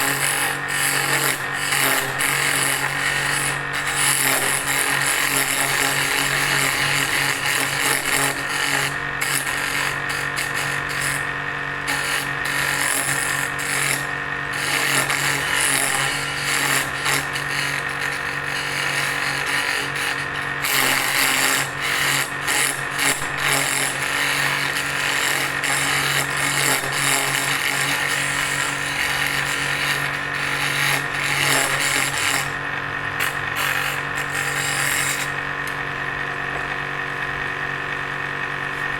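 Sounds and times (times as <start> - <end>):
hand tool scraping turning wood: 0.0 - 35.8.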